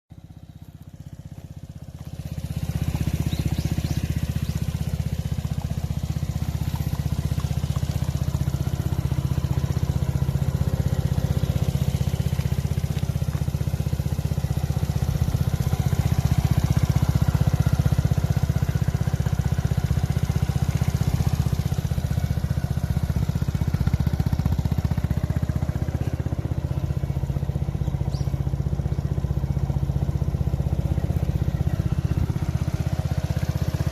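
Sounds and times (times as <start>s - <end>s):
motorcycle engine running: 0.1s - 33.9s.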